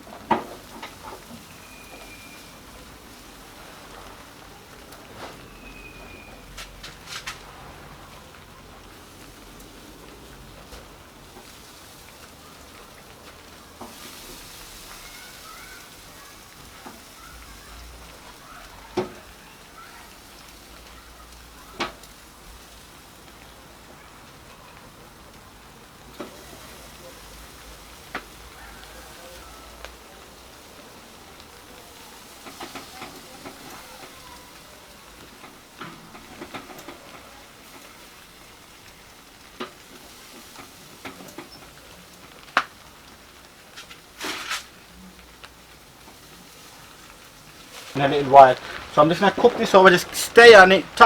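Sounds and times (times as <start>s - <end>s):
meat sizzling on a grill: 0.0s - 51.0s
rain falling: 0.0s - 51.0s.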